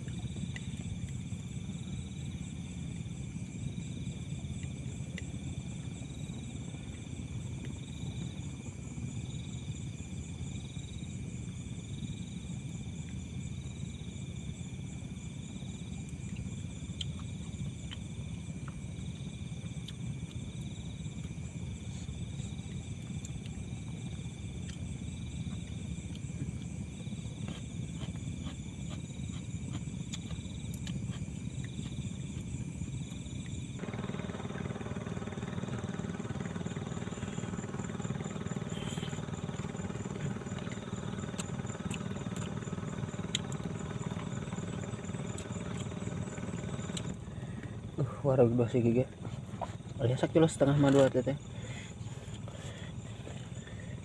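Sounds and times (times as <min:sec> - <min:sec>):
insects chirring: 0:00.0 - 0:54.0
pulsing insect trill: 0:00.0 - 0:54.0.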